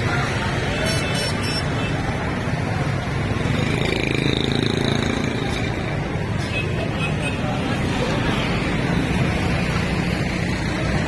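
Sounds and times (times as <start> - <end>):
crowd chatter: 0.0 - 11.0
low hum of traffic: 0.0 - 11.0.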